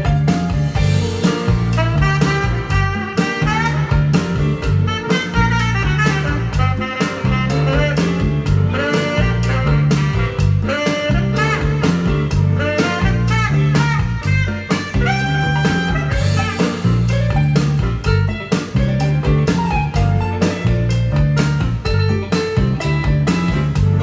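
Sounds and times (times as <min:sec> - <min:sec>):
swing jazz with guitar bass drums: 0:00.0 - 0:24.0.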